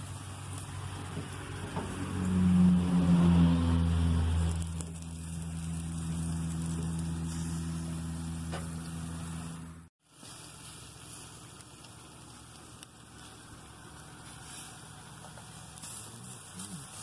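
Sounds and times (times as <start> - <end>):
low motor hum: 0.0 - 17.0
meat sizzling on grill: 0.0 - 17.0.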